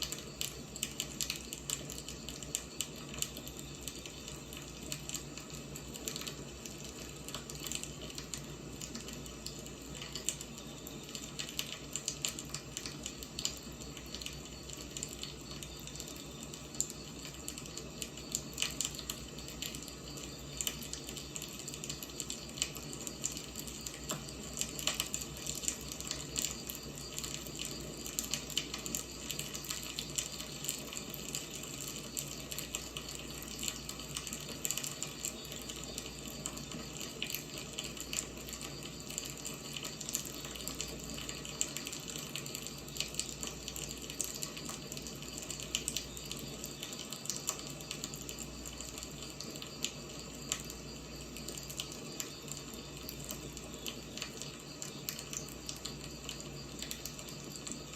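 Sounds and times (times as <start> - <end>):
firewood crackling and popping: 0.0 - 57.9.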